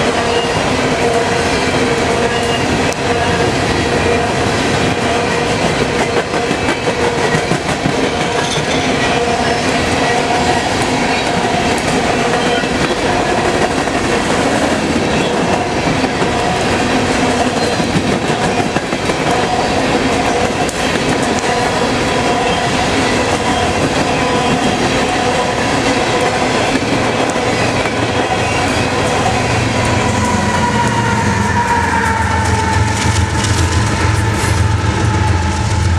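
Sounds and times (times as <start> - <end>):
diesel locomotive engine drone: 0.0 - 35.9
train wheels rumbling on rails: 0.0 - 35.9.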